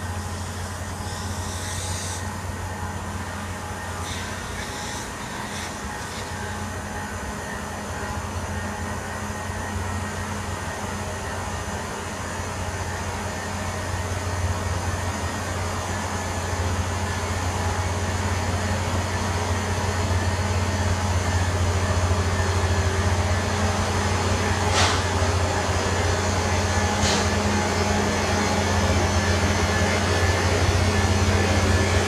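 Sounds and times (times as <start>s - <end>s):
rail grinder droning: 0.0s - 32.0s.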